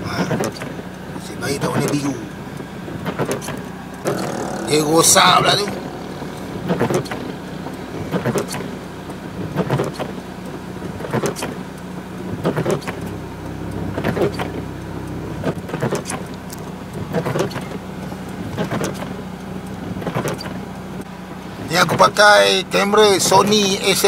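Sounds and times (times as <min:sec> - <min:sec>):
car engine idling: 0:00.0 - 0:24.0
windscreen wipers swishing: 0:00.0 - 0:24.0.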